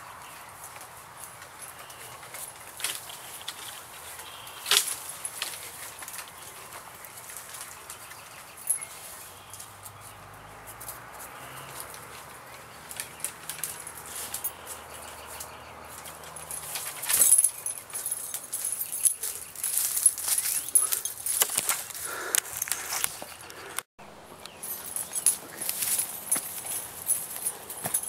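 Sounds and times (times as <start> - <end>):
branches and leaves rustling: 0.0 - 28.0
branches snapping and crackling: 0.4 - 28.0.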